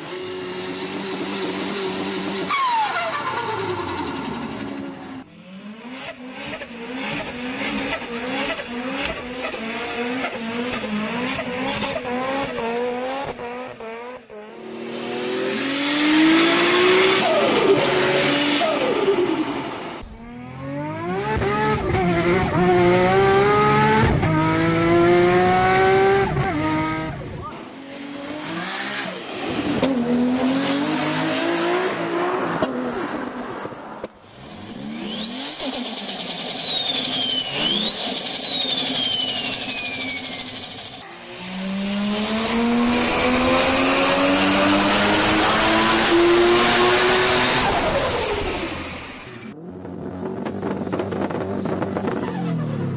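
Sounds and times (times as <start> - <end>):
car engines accelerating hard: 0.0 - 52.9.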